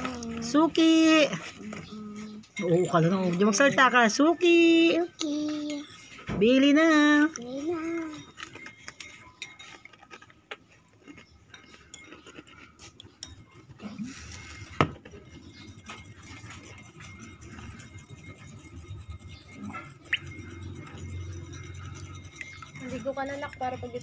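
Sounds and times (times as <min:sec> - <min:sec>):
glass and tableware clinking: 0:00.0 - 0:24.0.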